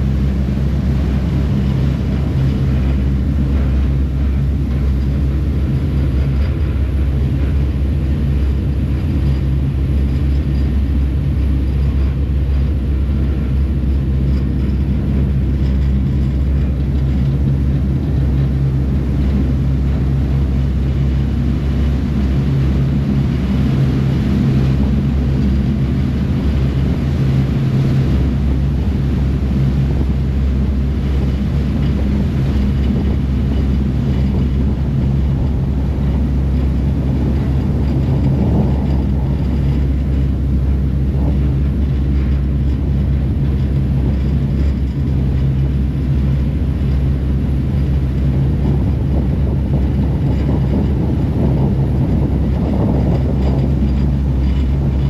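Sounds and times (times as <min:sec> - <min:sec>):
ferry engines humming: 0:00.0 - 0:55.0
water rushing in wake: 0:00.0 - 0:55.0.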